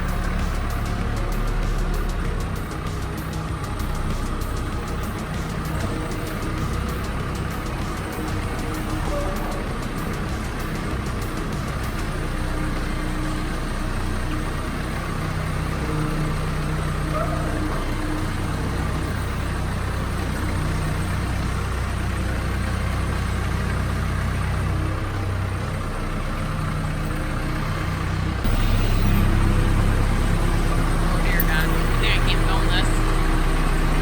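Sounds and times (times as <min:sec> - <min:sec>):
backhoe engine running: 0:00.0 - 0:34.0.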